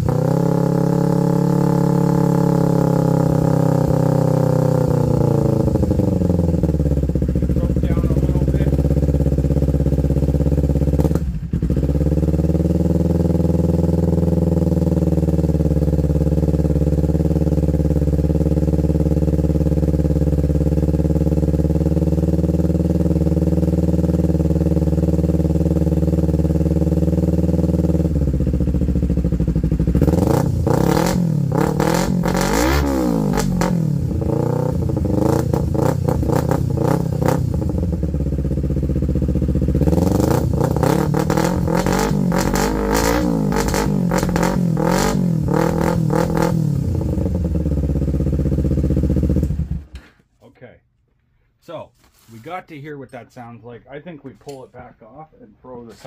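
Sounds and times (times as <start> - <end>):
motorcycle engine idling and revving: 0.0 - 50.1.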